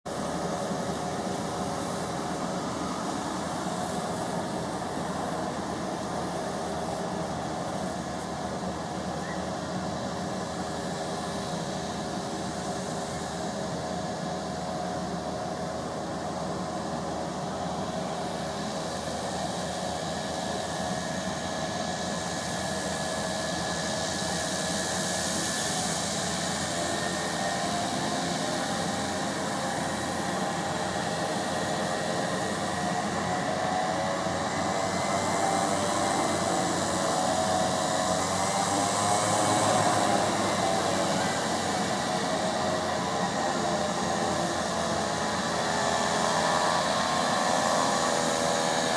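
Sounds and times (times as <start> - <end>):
turboprop engines whining: 0.1 - 48.9.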